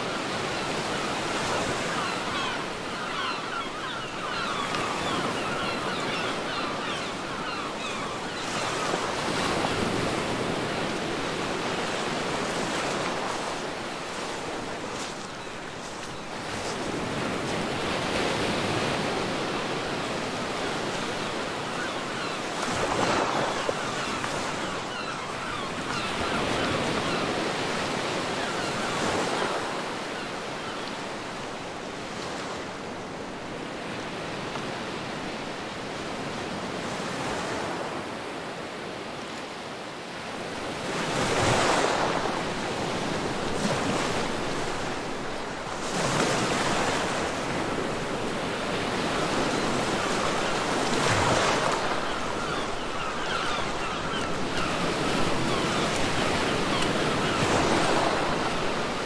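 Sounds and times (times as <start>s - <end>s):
ocean waves breaking on beach: 0.0s - 59.0s
wind: 0.0s - 59.0s.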